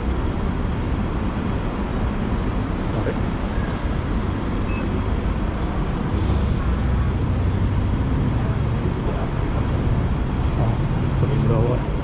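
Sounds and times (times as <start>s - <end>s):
large vehicle low rumble: 0.0s - 12.0s
vehicle engines running: 0.0s - 12.0s.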